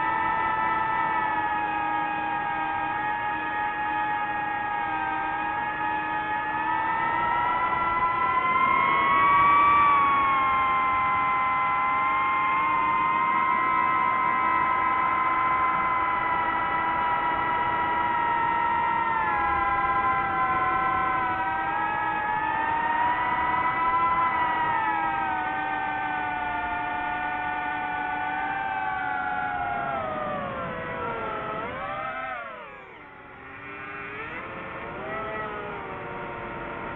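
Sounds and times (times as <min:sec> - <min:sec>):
drone propellers whining: 0:00.0 - 0:36.9.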